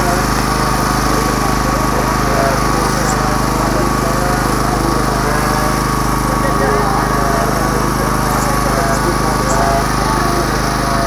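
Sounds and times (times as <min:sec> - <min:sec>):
engine droning: 0:00.0 - 0:11.0
people talking: 0:00.0 - 0:11.0.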